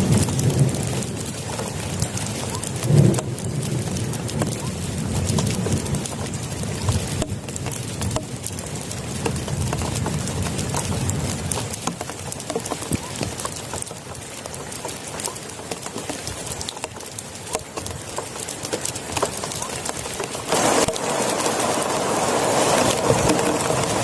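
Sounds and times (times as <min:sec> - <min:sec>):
heavy rain on plastic tarp: 0:00.0 - 0:24.0.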